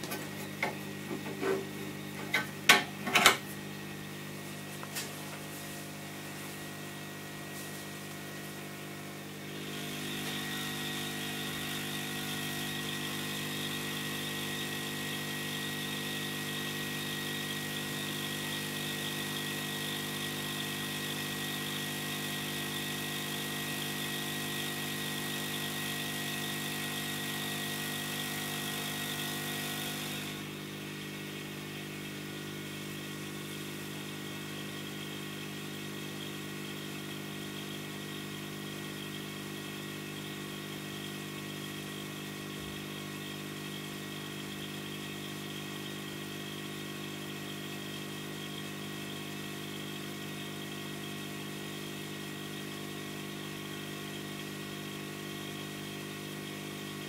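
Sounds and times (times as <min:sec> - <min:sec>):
hot air blower humming: 0:00.0 - 0:47.8.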